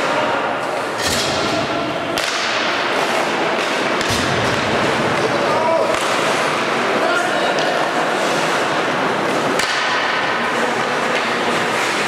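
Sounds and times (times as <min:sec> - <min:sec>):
hockey sticks and puck clacking: 0:00.0 - 0:12.0
ice rink din: 0:00.0 - 0:12.0.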